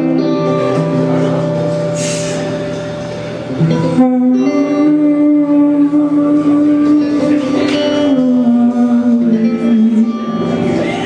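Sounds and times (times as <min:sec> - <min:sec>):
live band instrumental music: 0:00.0 - 0:11.0.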